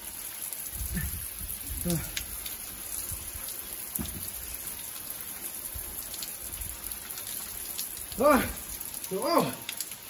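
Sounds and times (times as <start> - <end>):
shower water splashing: 0.0 - 10.0.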